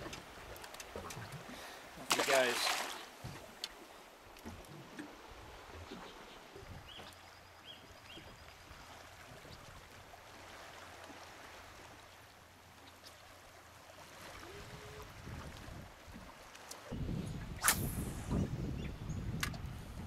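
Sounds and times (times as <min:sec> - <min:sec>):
water lapping against boat hull: 0:00.0 - 0:17.5.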